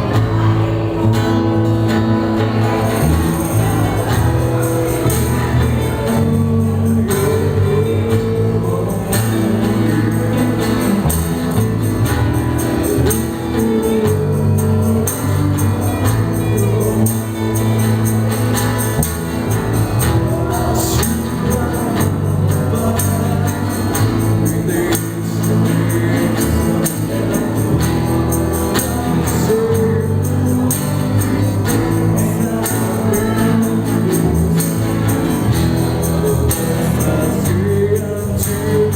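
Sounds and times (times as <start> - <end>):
acoustic pop-rock band playing: 0.0 - 38.9
cajon percussion: 0.0 - 38.9
person singing: 2.4 - 38.9.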